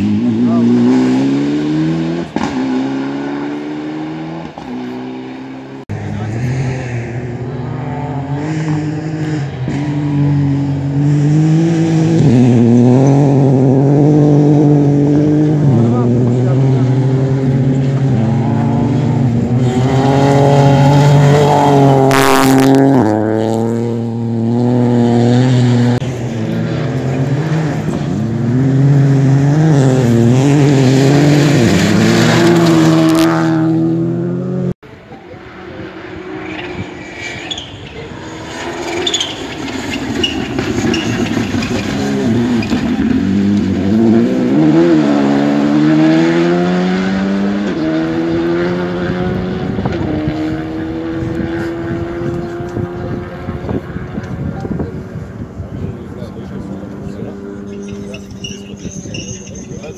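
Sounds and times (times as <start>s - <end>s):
car approaching: 0.0s - 59.9s
rally car engines revving: 0.0s - 59.9s.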